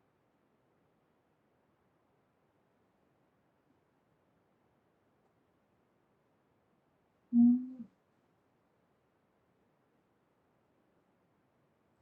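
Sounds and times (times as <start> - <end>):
faint microphone hiss: 0.0 - 12.0.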